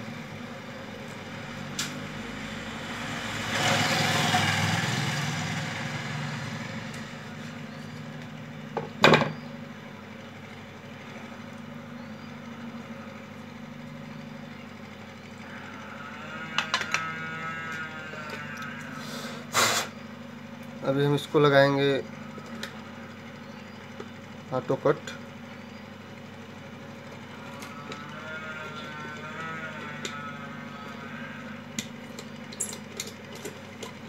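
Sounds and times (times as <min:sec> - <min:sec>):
low engine-like hum: 0:00.0 - 0:34.0.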